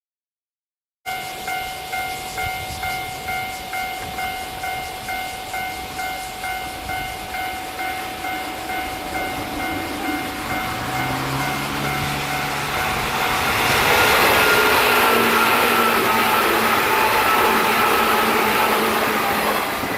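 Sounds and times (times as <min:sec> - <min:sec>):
approaching train: 0:01.1 - 0:19.9
level crossing alarm bell ringing: 0:01.1 - 0:19.9.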